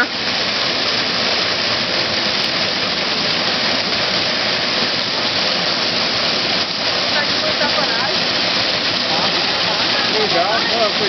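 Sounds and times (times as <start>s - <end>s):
waterfall pouring and splashing: 0.0s - 11.0s.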